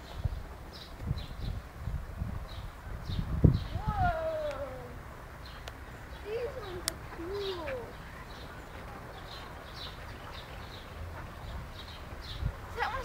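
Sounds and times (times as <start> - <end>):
low wavering bird calls: 2.5 - 13.0.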